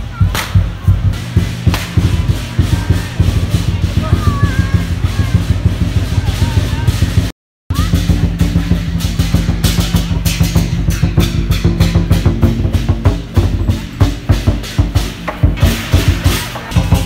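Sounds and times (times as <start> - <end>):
metal percussion crashing: 0.0 - 17.0
barrel drum beating fast: 0.1 - 17.0.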